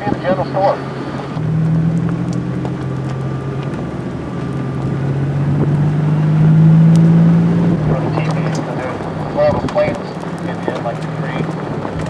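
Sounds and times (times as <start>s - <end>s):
off-road vehicle engine droning: 0.0s - 12.0s.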